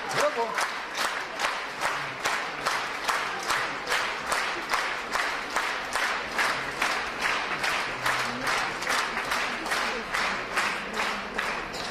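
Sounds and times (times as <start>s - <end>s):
audience clapping in rhythm: 0.0s - 11.9s.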